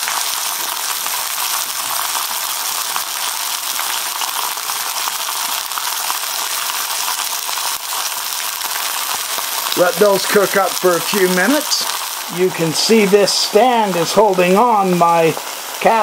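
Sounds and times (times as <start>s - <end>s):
steaks sizzling in skillet: 0.0s - 16.0s.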